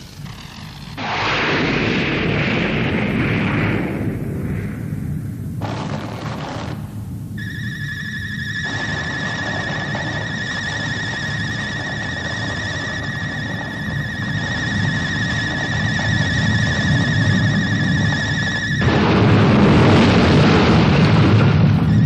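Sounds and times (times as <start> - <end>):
low volcanic rumble: 0.9 - 5.9, 8.6 - 22.0.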